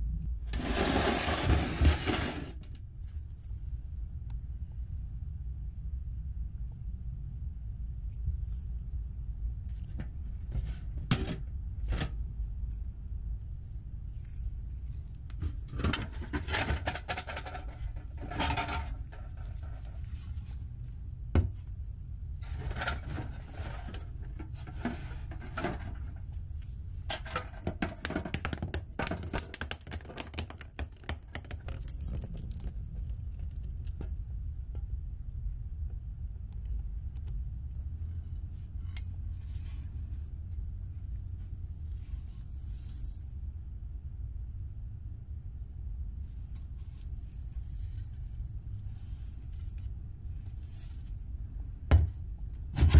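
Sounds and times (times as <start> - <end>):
steady low hum: 0.0 - 29.5, 30.6 - 52.9.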